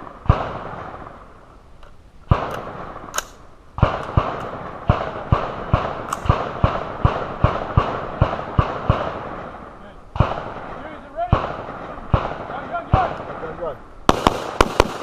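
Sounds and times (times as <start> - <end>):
gunshots with echoing tail: 0.0 - 1.4, 2.3 - 3.2, 3.8 - 15.0.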